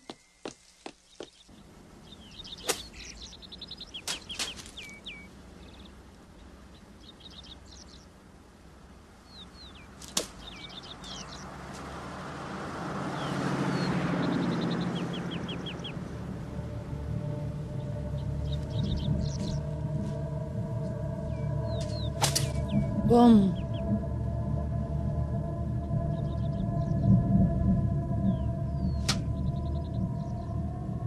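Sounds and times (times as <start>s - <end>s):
songbirds chirping and trilling: 0.0s - 31.0s.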